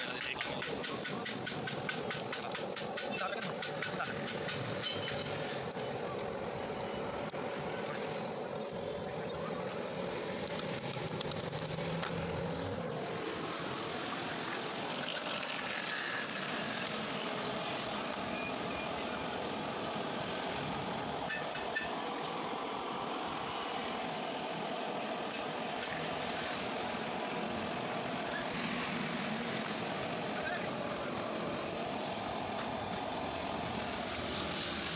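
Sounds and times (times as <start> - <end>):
vehicle traffic: 0.0 - 34.9.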